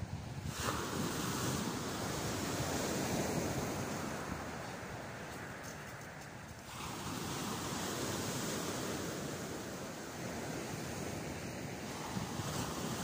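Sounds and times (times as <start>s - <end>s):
sea waves breaking on beach: 0.1s - 13.0s.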